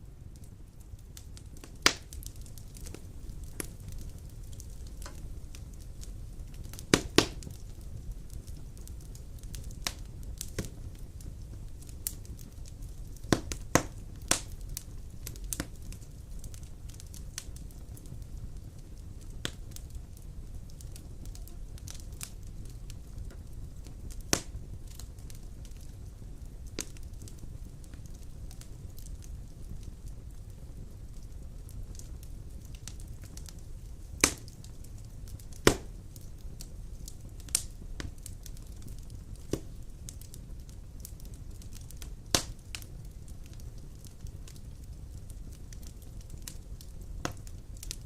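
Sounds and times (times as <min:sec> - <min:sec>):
fire burning rumble: 0:00.0 - 0:48.0
fire crackling and popping: 0:00.0 - 0:48.0.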